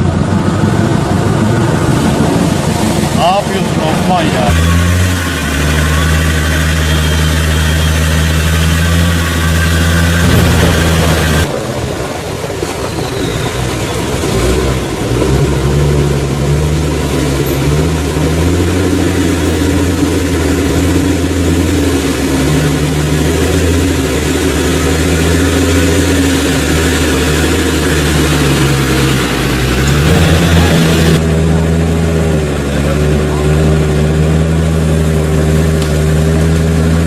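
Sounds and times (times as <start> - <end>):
engine running at low revs: 0.0 - 37.0.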